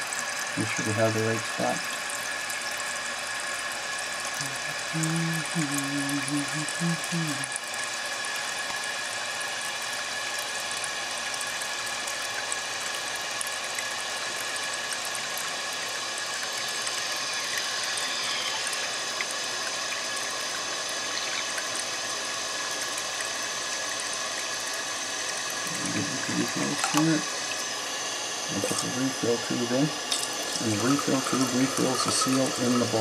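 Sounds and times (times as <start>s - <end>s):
water rushing into toilet tank: 0.0s - 33.0s.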